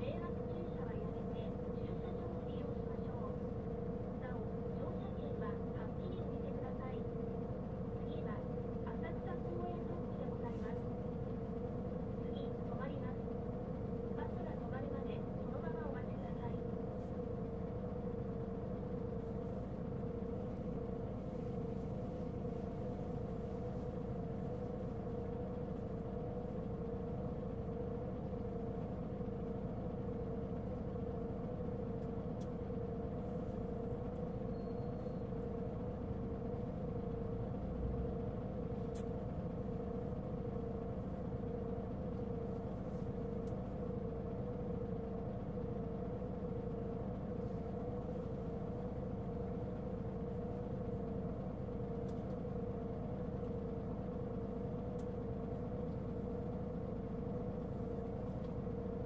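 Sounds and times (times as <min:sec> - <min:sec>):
bus engine droning with whine: 0:00.0 - 0:59.0.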